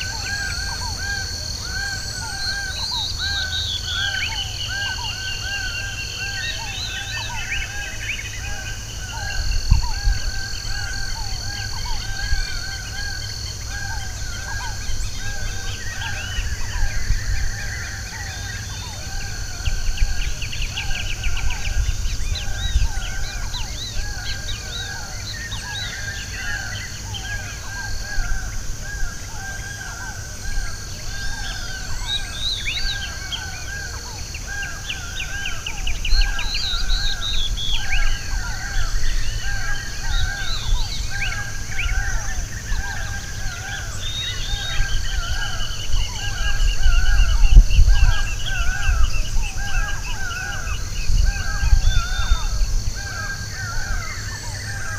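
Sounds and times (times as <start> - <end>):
wild birds calling and singing: 0.0 - 54.9.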